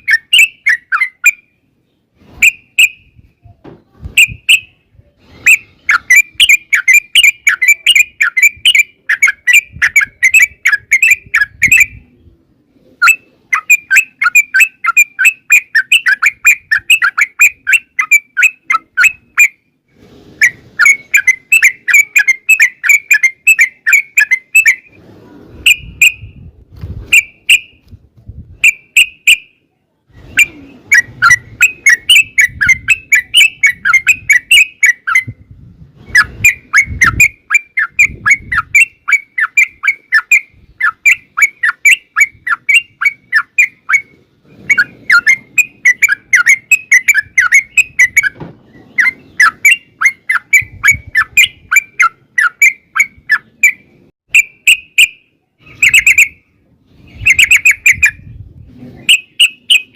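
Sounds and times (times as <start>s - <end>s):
bird chattering song: 0.0s - 3.2s, 4.2s - 4.8s, 5.4s - 12.3s, 13.0s - 19.7s, 20.4s - 25.0s, 28.6s - 29.6s, 30.2s - 35.4s, 36.1s - 58.3s, 59.0s - 59.9s.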